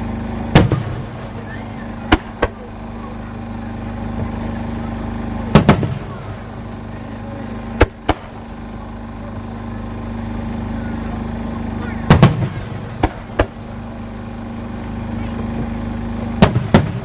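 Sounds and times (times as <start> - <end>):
fireworks bursting: 0.0 - 17.0
steady low hum: 0.0 - 17.0.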